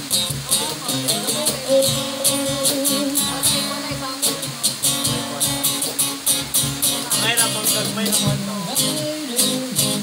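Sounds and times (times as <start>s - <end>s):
acoustic guitar strummed: 0.0s - 10.0s
cajon beat: 0.0s - 10.0s
man singing: 0.1s - 6.0s, 7.1s - 10.0s.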